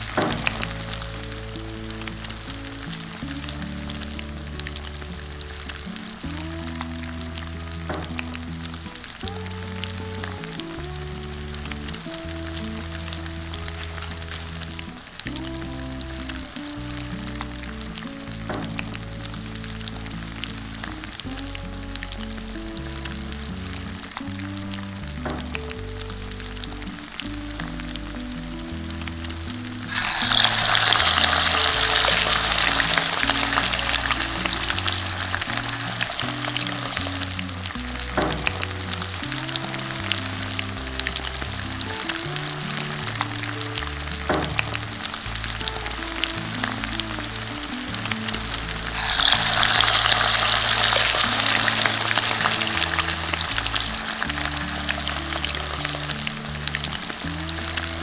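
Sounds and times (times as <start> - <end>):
background music: 0.0 - 58.0
tofu sizzling in hot oil: 0.0 - 58.0.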